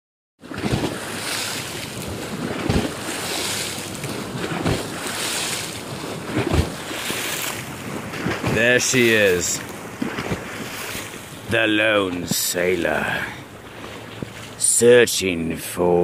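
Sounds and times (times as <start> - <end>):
wind rumbling on microphone: 0.4 - 14.6
waves lapping on gravel shore: 0.5 - 14.7.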